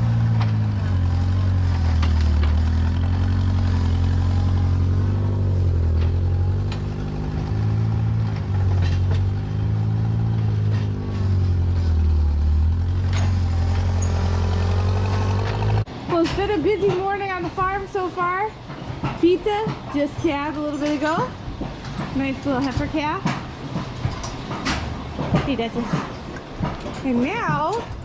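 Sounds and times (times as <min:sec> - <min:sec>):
old tractor engine running: 0:00.0 - 0:28.0.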